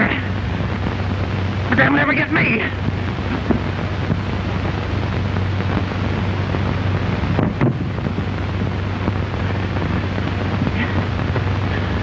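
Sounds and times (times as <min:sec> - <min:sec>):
film soundtrack hiss and hum: 0:00.0 - 0:12.0.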